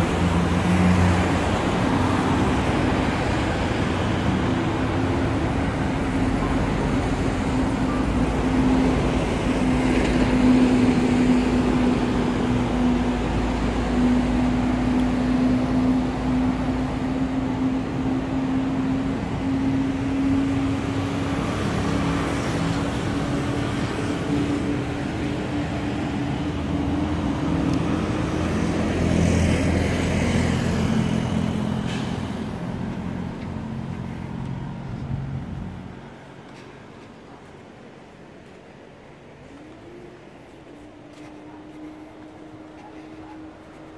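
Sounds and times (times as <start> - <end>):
road traffic engine hum: 0.0 - 43.9.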